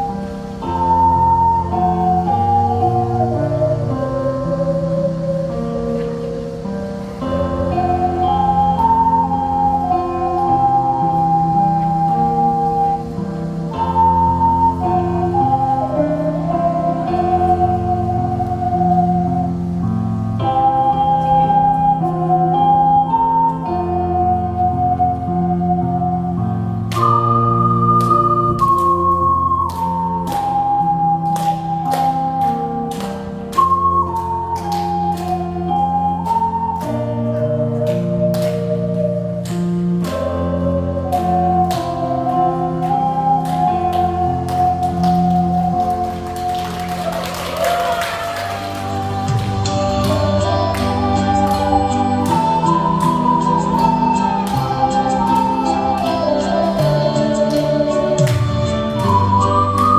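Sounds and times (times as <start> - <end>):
chordal accompaniment with bass: 0.0 - 59.9
ocarinas playing slow melody: 0.0 - 59.9.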